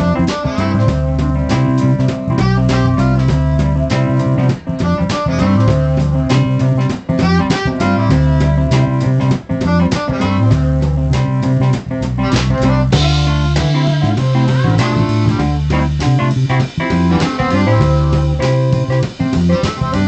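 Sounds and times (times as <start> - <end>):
bass line: 0.0 - 20.0
drum kit beat: 0.0 - 20.0
electric guitar: 0.0 - 20.0
keyboard: 0.0 - 20.0.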